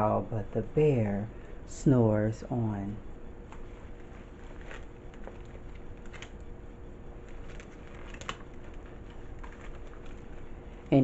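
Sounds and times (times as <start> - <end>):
room hiss: 0.0 - 11.0
steady low hum: 0.0 - 11.0.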